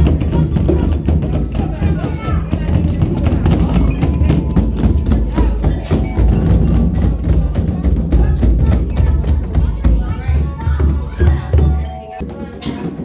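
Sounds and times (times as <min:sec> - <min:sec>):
music with rapid percussive knocks: 0:00.0 - 0:13.0.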